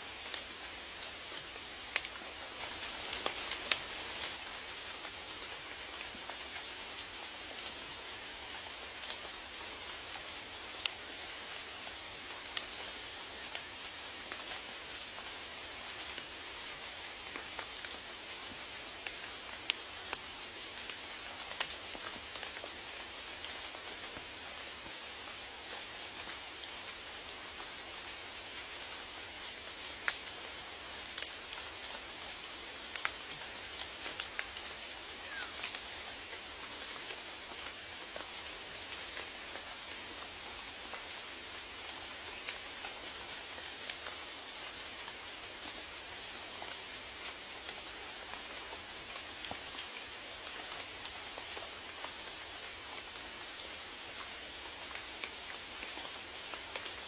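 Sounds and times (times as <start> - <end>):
steady rain hissing: 0.0 - 57.0
raindrops ticking close by: 0.1 - 57.0.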